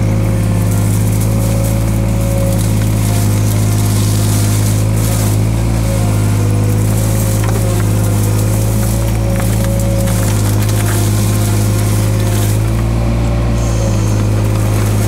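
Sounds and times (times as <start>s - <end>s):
branches snapping: 0.0s - 15.0s
excavator diesel engine running: 0.0s - 15.0s.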